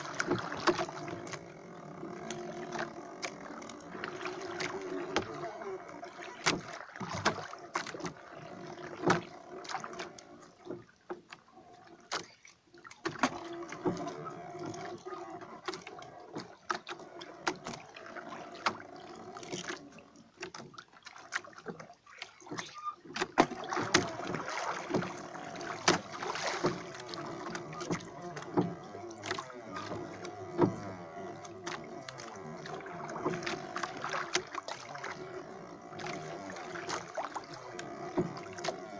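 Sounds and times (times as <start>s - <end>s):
fishing line and boat clicks: 0.0s - 38.9s
water noise: 0.0s - 38.9s.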